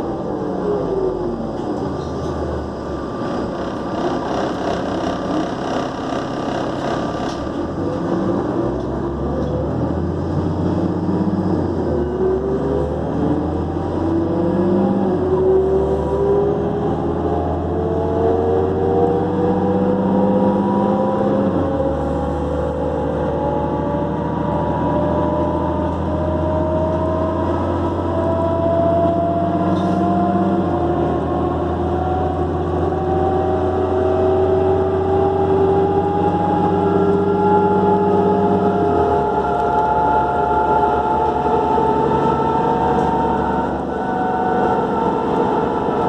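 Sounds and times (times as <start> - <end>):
bus engine and turbo whine: 0.0 - 46.0.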